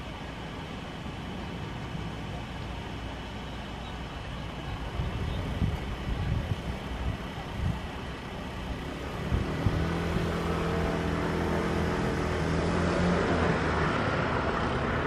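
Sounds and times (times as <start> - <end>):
low uneven rumble: 0.0 - 15.0
vehicle engine humming: 0.0 - 15.0.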